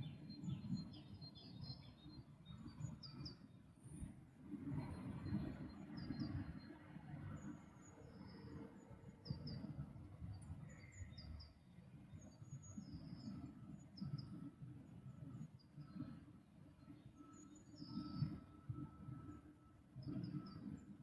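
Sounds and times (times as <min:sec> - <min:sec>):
faint songbirds chirping: 0:00.0 - 0:21.0.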